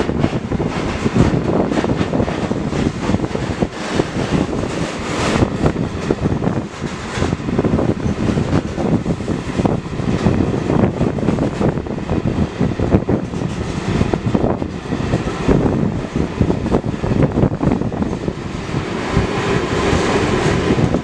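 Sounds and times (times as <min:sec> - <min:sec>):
train wagons rumbling and clattering: 0:00.0 - 0:21.0.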